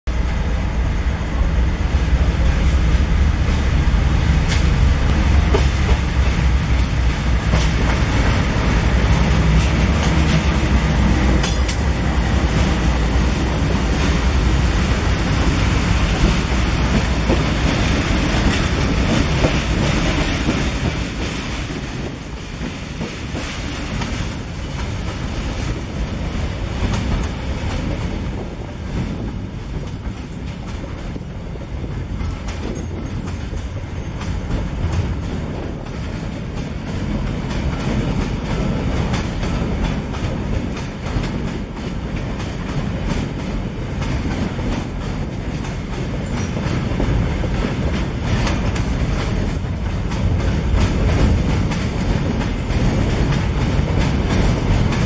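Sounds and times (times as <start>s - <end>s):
diesel locomotives rumbling: 0.1s - 55.0s
train wagons clicking on rails: 4.3s - 55.0s.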